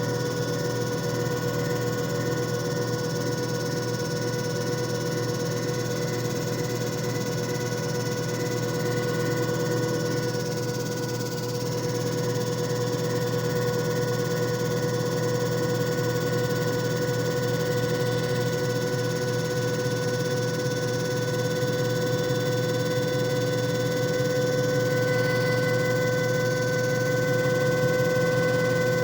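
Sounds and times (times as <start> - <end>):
machine motor humming and whining: 0.0 - 29.0.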